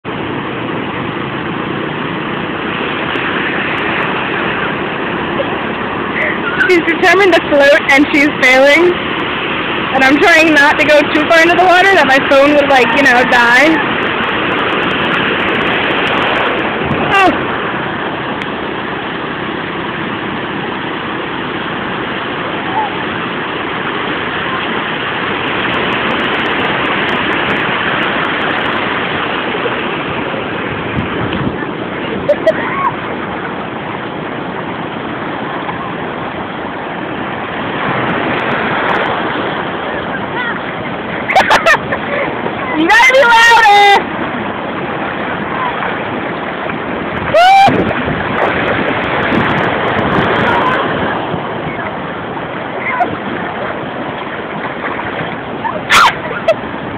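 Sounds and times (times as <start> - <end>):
ocean waves breaking: 0.0 - 56.9
sea surf washing in: 0.0 - 56.9.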